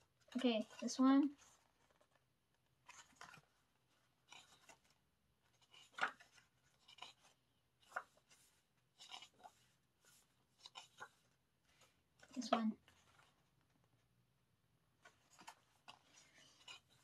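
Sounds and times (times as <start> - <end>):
paper pages rustling: 0.1 - 14.1, 14.9 - 17.0.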